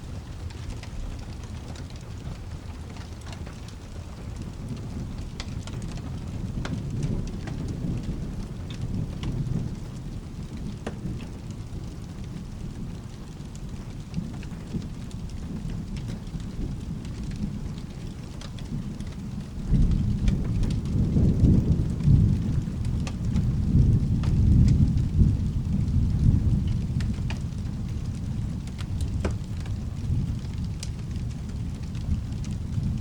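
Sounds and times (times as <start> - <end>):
low thunder rumble: 0.0 - 33.0
steady rain: 0.0 - 33.0.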